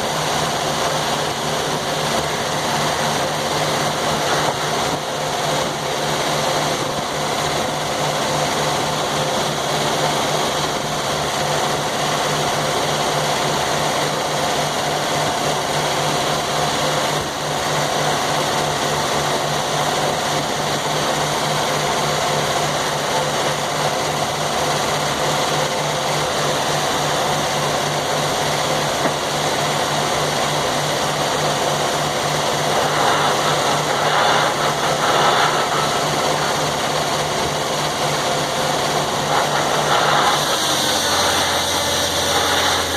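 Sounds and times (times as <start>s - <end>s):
sawmill engine drone: 0.0s - 42.9s.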